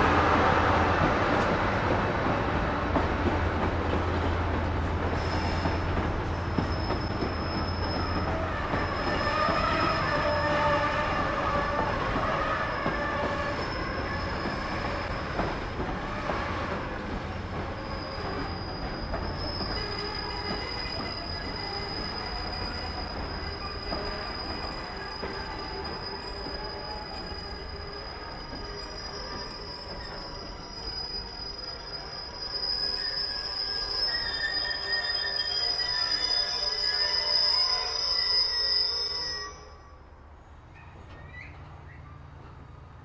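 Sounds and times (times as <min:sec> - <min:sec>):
train wheels rumbling on rails: 0:00.0 - 0:38.8
high wheel squeal: 0:05.2 - 0:16.6, 0:17.7 - 0:40.0, 0:40.8 - 0:42.3.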